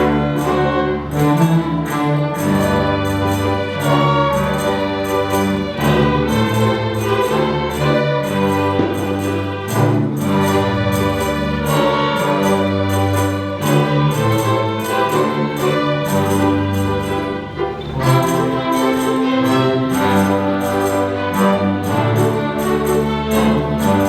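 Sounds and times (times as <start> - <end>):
orchestra playing: 0.0 - 24.0.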